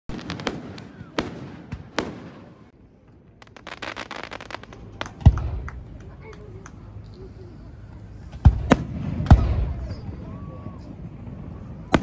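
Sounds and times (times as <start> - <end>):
fireworks bangs: 0.1 - 6.1, 8.2 - 12.0
fireworks crackling: 0.1 - 10.2.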